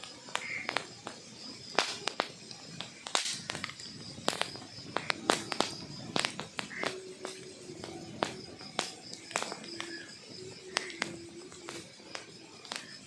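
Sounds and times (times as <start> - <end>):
low hiss of fire: 0.0 - 13.0
wood fire crackling: 0.0 - 13.0.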